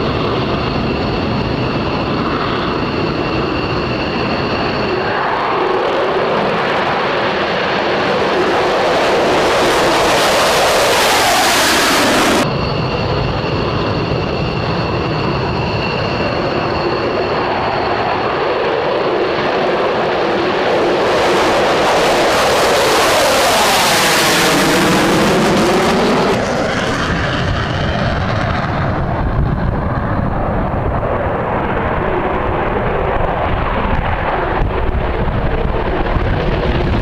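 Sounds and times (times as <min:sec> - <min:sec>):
high jet whine: 0:00.0 - 0:37.0
jet engines roaring at takeoff: 0:00.0 - 0:37.0.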